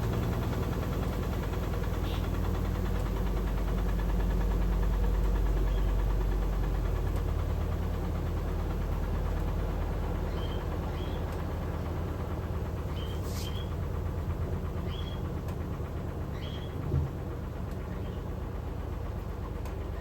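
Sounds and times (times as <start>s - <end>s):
washing machine running: 0.0s - 20.0s.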